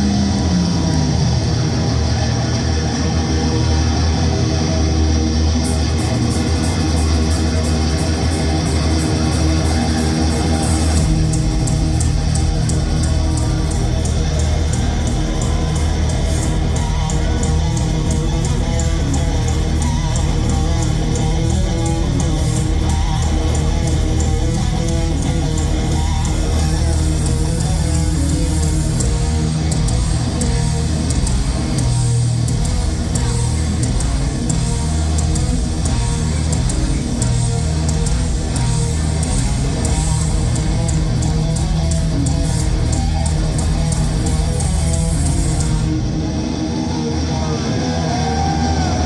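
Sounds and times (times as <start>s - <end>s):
bass guitar: 0.0s - 49.0s
distorted electric guitars: 0.0s - 49.0s
fast drums: 5.5s - 46.3s.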